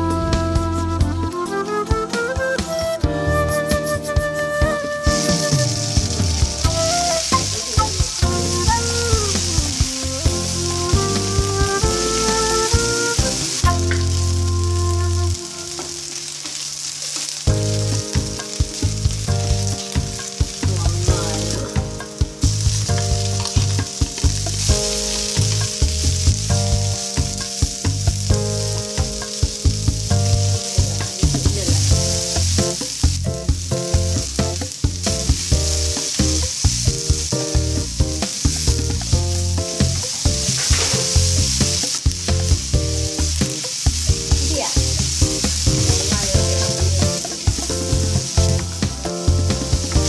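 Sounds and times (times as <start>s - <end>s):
onions sizzling in oil: 2.2s - 50.0s.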